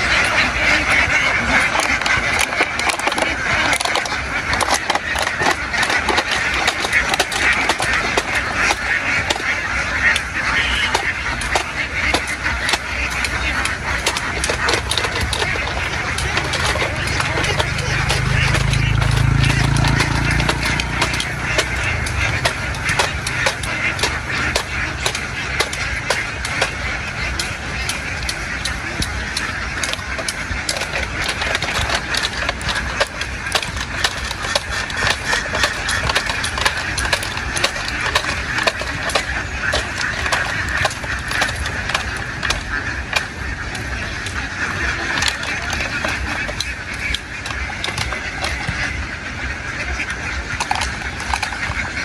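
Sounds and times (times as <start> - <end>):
sharp clicks and taps: 0.0 - 48.8
ducks quacking: 0.0 - 52.0.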